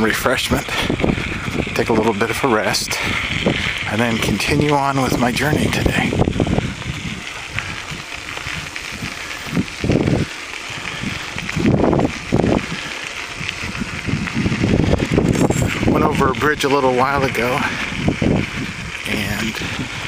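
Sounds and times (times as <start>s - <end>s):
bicycle rolling on gravel: 0.0s - 20.0s.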